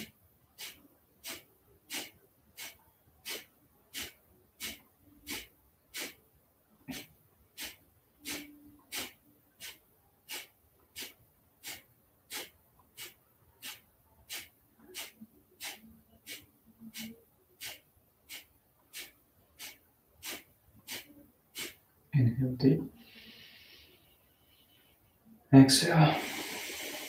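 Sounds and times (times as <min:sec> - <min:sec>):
forceful nasal exhalations: 0:00.0 - 0:06.2, 0:06.9 - 0:21.8, 0:22.8 - 0:24.2, 0:26.0 - 0:27.0.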